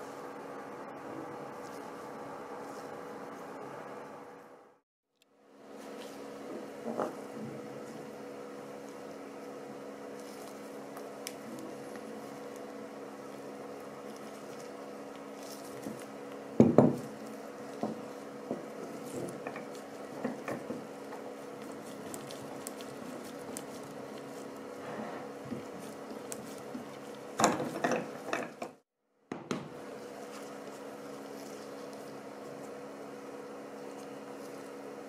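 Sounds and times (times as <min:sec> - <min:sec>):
steady low hum: 0:00.0 - 0:28.8, 0:29.7 - 0:35.0.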